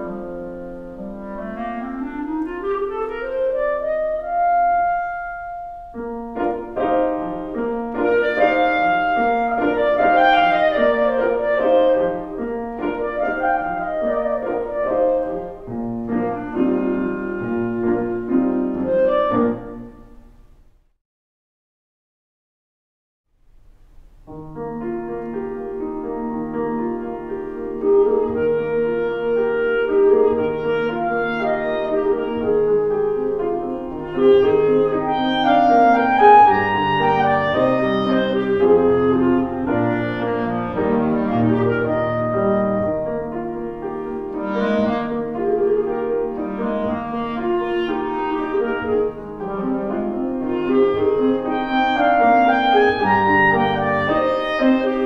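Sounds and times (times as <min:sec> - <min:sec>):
clarinet melody: 0:00.0 - 0:20.5, 0:24.2 - 0:55.0
piano accompaniment: 0:00.0 - 0:20.9, 0:23.4 - 0:55.0.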